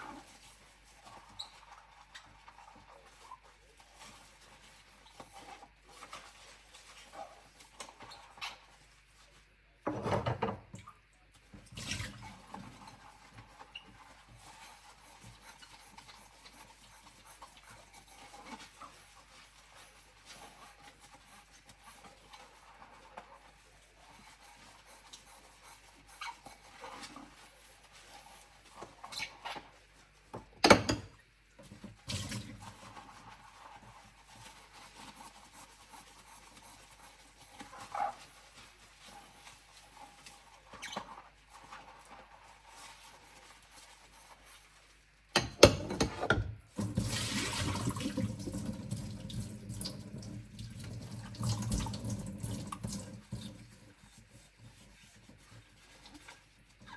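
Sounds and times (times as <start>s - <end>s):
bowls rinsed at sink: 0.0s - 56.9s.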